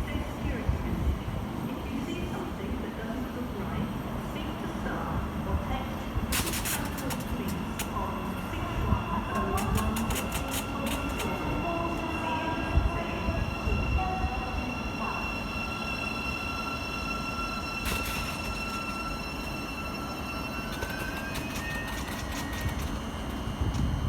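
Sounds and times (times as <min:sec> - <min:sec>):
train moving: 0:00.0 - 0:24.0.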